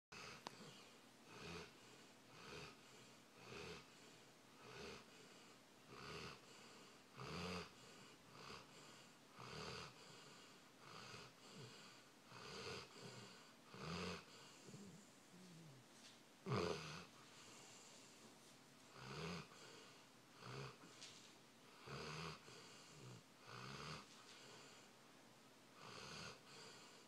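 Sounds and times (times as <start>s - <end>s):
pet snoring faintly: 0.2s - 24.9s, 25.8s - 27.0s.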